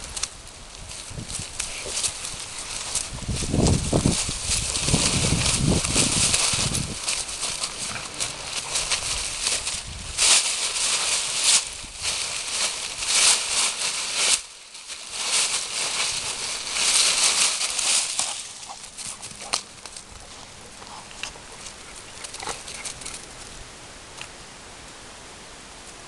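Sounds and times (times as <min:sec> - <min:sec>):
dry leaves crunching and rustling: 0:00.0 - 0:23.6.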